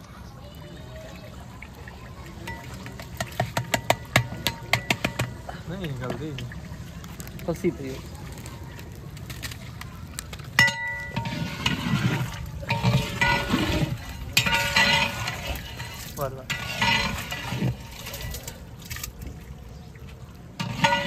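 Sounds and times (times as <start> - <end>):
spoon stirring and sloshing liquid: 1.4 - 8.5, 10.4 - 21.0.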